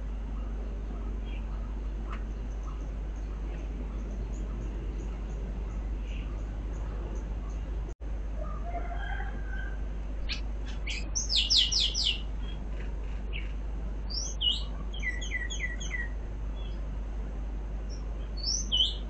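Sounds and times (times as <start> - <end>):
small birds chirping: 0.3 - 7.9, 10.2 - 16.9, 17.9 - 19.0.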